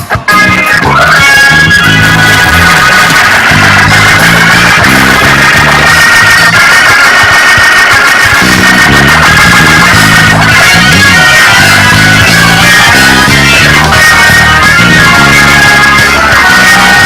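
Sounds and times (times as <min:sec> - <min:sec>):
church band playing: 0:00.0 - 0:17.0
fast bass line: 0:00.0 - 0:17.0.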